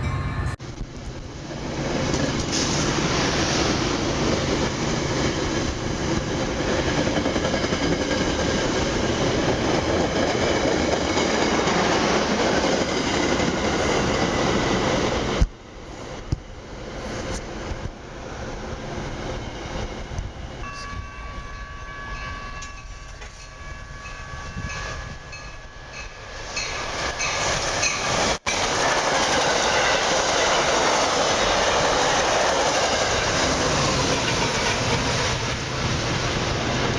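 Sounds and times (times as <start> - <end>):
train passing at speed: 0.0 - 36.9
train rumble: 0.0 - 36.9.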